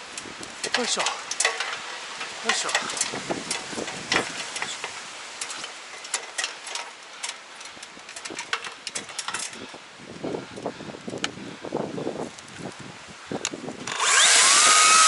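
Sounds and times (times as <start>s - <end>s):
branches snapping and rustling: 0.0s - 10.3s, 12.2s - 15.0s.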